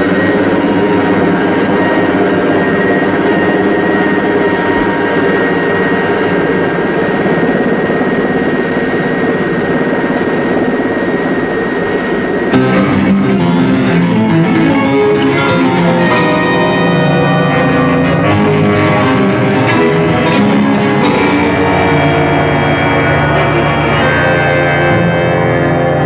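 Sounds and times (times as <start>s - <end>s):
loud mechanical drone: 0.0s - 26.0s
thin high whine: 0.0s - 26.0s.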